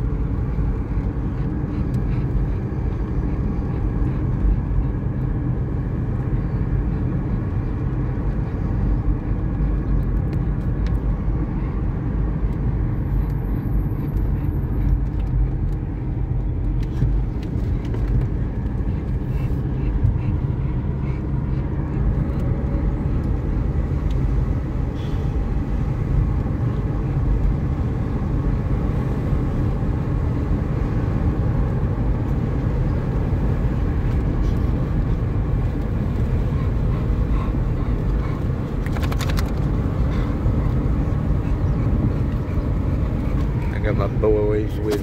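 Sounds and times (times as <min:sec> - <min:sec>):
car road and engine noise: 0:00.0 - 0:45.0.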